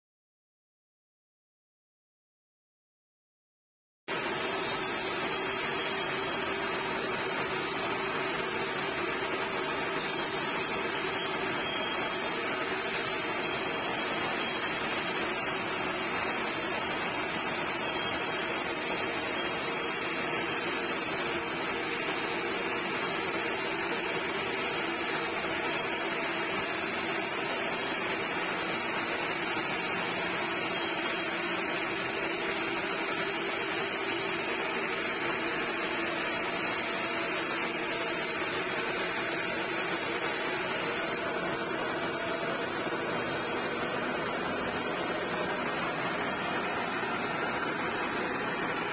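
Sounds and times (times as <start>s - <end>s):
machine motors humming and whirring: 4.1s - 48.9s.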